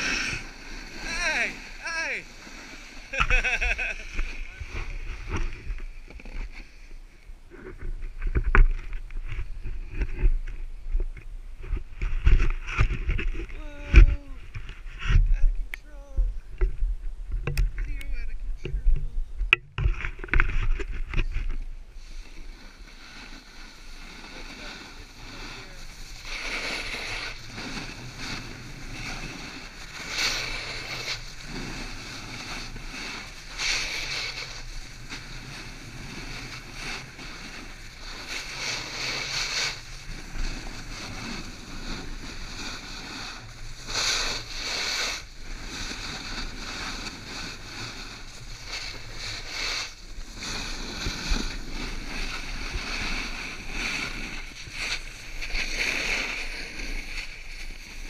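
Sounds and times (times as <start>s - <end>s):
wind on microphone: 0.0s - 6.6s, 7.4s - 58.0s
snowboard scraping on snow: 0.0s - 16.2s, 20.5s - 58.0s.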